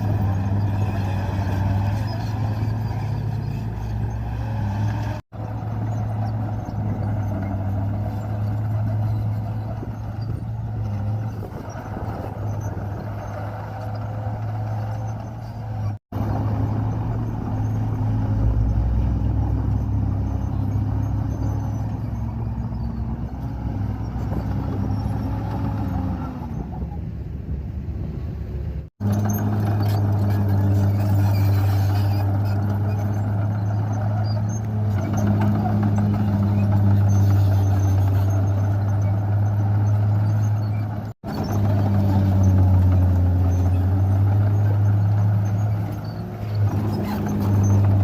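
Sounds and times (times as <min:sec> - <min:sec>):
bulldozer diesel engine running: 0:00.0 - 0:27.2, 0:29.0 - 0:48.0.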